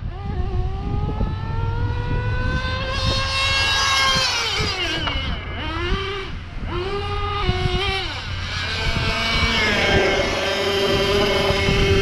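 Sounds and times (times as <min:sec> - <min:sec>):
small rc car engine accelerating: 0:00.0 - 0:12.0.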